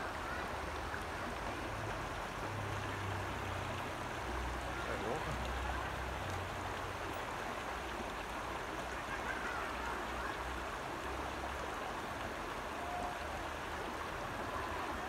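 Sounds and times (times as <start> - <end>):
creek water running over gravel: 0.0 - 15.0.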